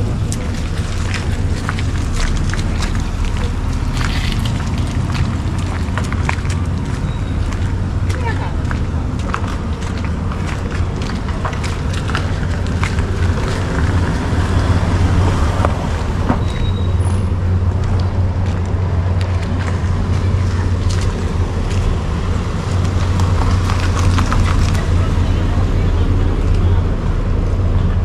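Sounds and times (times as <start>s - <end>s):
road noise: 0.0s - 28.0s
vehicle engine running: 0.0s - 28.0s.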